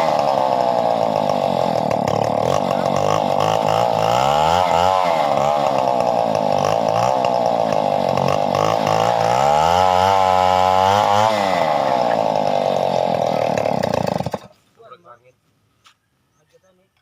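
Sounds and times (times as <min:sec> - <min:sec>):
chainsaw cutting wood: 0:00.0 - 0:14.6.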